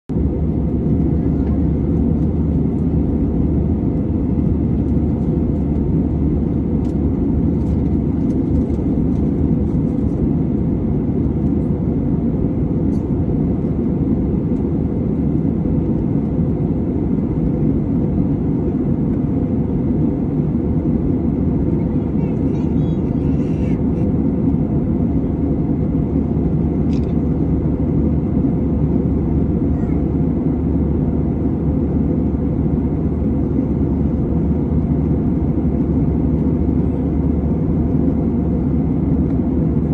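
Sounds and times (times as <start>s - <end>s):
aircraft cabin engine drone: 0.1s - 39.9s.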